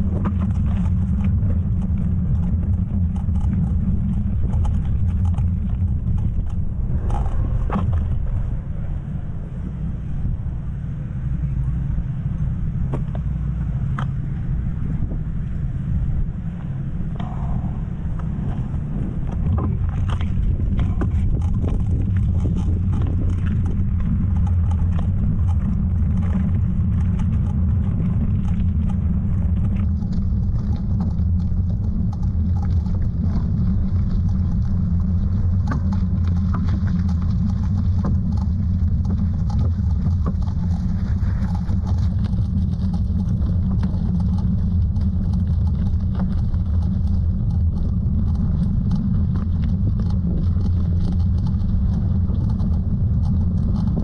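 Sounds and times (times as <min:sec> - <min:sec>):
faint ticks and rattles: 0:00.0 - 0:08.1, 0:17.2 - 0:54.0
wind rumble on microphone: 0:00.0 - 0:54.0.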